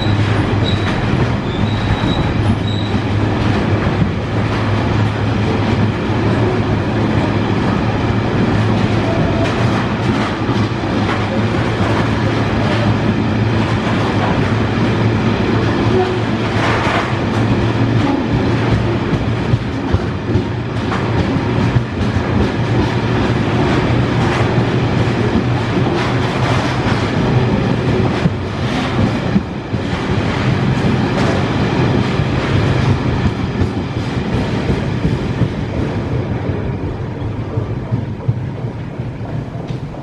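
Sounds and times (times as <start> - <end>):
train rumble: 0.0 - 40.0
train wheels clattering over rail joints: 0.0 - 40.0.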